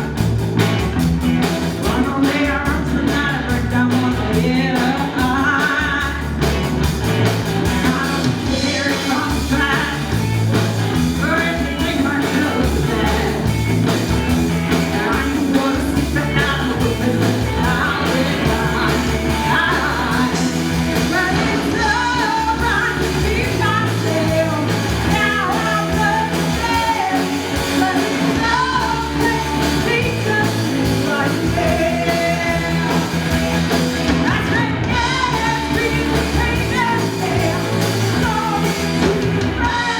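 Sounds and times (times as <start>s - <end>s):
bass line: 0.0s - 39.9s
drums: 0.0s - 39.9s
guitar: 0.0s - 39.9s
person singing: 1.8s - 6.4s, 7.6s - 39.9s.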